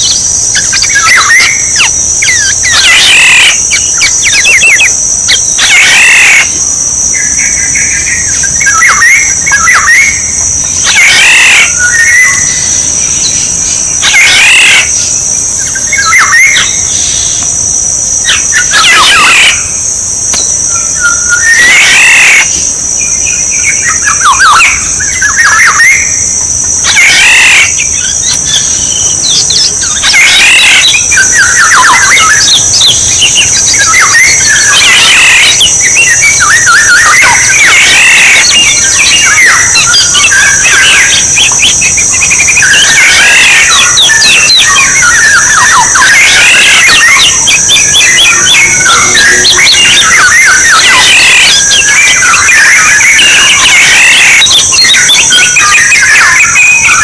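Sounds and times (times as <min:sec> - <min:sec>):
bird fluty whistled phrases: 0:00.0 - 0:17.5, 0:18.2 - 0:19.7, 0:20.3 - 0:57.0
high-pitched buzz: 0:00.0 - 0:57.0.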